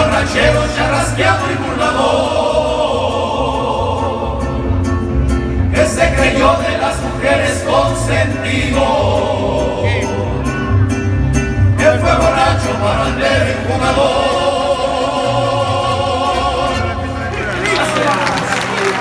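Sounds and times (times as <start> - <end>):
mariachi band playing: 0.0 - 19.0.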